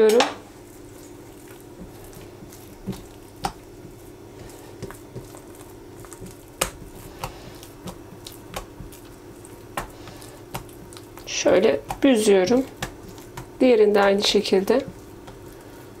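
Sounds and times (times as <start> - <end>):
hands rolling sticky dough: 0.0 - 16.0
steady low hum: 0.0 - 16.0.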